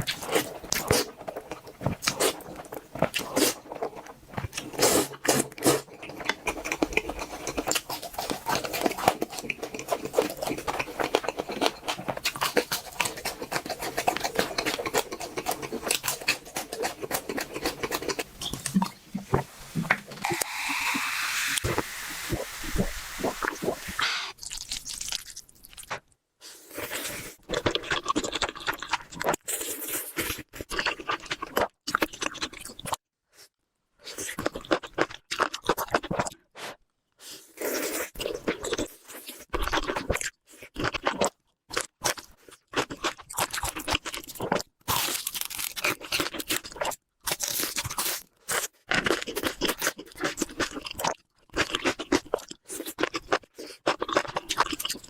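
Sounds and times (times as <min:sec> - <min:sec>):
crunching and chewing: 0:00.0 - 0:19.4, 0:23.3 - 0:55.0.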